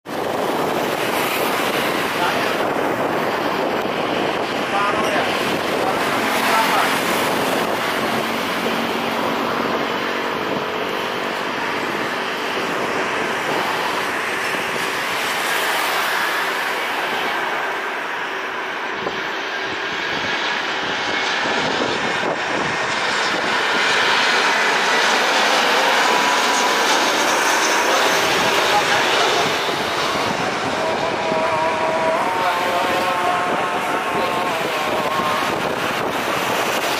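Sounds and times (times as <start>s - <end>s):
jet engines rushing: 0.0s - 36.9s.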